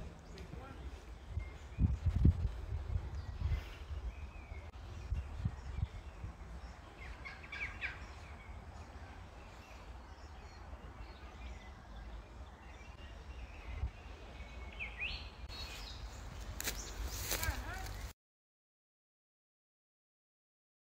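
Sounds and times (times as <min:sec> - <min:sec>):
birds chirping: 0:00.0 - 0:18.1
wind rumbling on microphone: 0:00.0 - 0:18.1.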